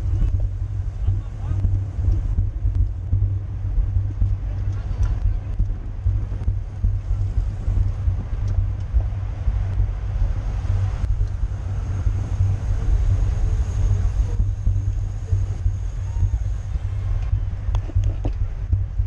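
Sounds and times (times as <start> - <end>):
wind buffeting a microphone: 0.0 - 19.0.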